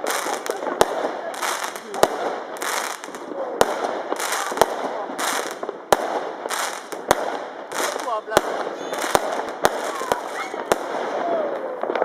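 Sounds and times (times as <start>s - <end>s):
firework bangs: 0.0s - 12.0s
firework crackling bursts: 0.0s - 12.0s.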